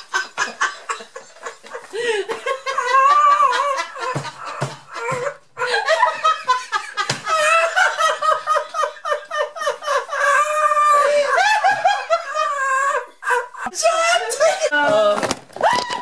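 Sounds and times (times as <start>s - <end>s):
people laughing hard: 0.0s - 14.7s.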